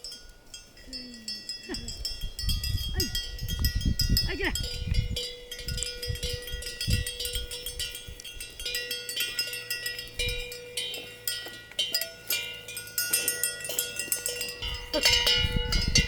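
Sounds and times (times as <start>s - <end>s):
cowbells clanking: 0.0s - 16.0s.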